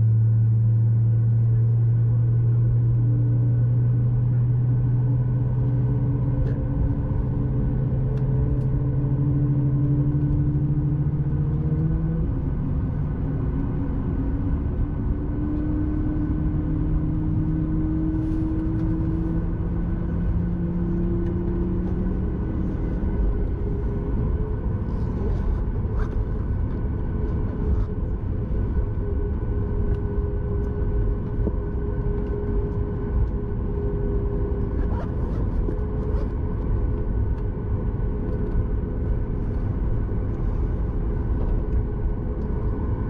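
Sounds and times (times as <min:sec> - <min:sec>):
airplane cabin engine drone: 0:00.0 - 0:43.0.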